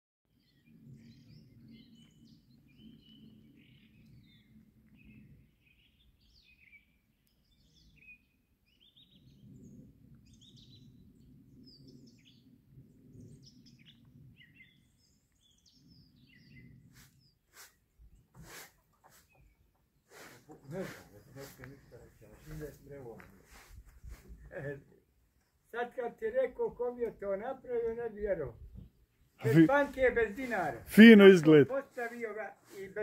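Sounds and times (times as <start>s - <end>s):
songbirds chirping and trilling: 0.3s - 33.0s.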